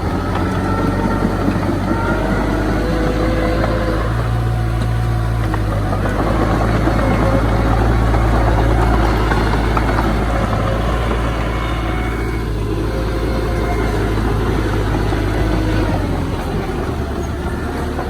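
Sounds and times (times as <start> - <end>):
diesel engine low drone: 0.0 - 18.0.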